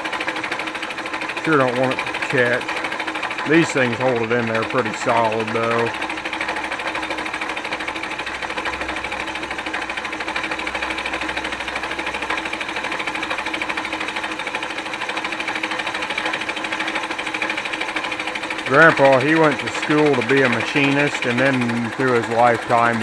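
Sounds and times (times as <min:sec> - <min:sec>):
machine hum: 0:00.0 - 0:23.0
milling machine cutting: 0:00.0 - 0:23.0.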